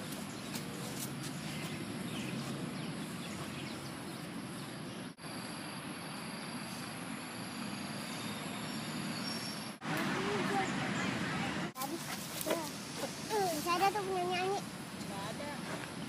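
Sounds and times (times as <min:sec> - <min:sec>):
outdoor park ambience: 0:00.0 - 0:16.0.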